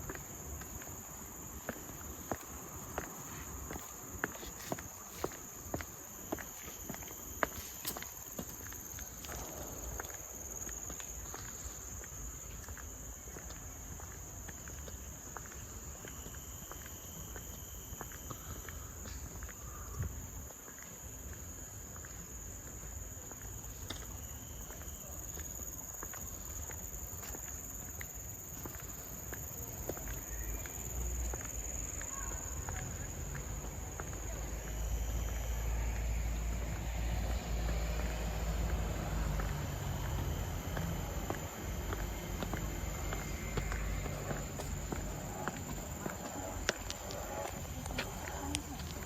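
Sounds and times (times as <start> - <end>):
insects droning: 0.0 - 49.0
soft footsteps on a path: 0.0 - 49.0.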